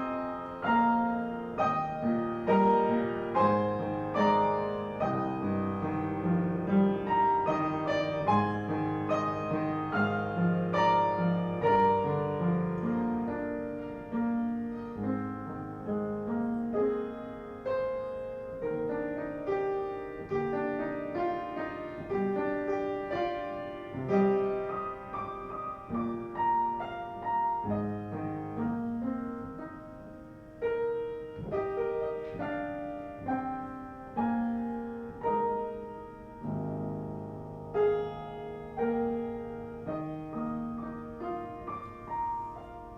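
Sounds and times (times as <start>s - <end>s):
slow gentle piano piece: 0.0s - 42.9s.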